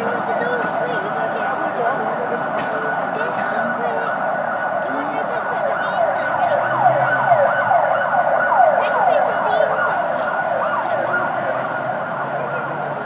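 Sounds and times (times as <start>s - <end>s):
siren sweeping: 0.0s - 13.0s.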